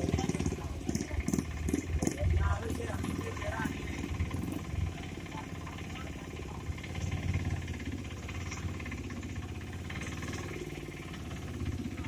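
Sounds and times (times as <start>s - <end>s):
engine running with fast pulse: 0.0s - 12.0s.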